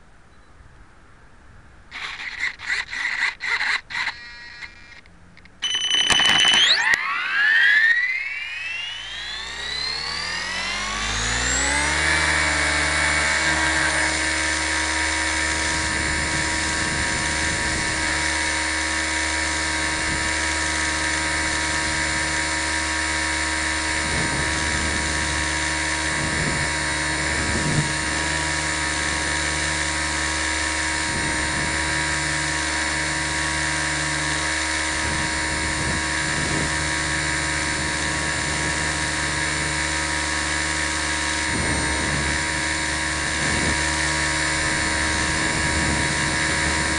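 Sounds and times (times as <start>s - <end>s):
low rotor hum: 1.8s - 46.9s
high-pitched motor and gear whine: 1.9s - 46.9s.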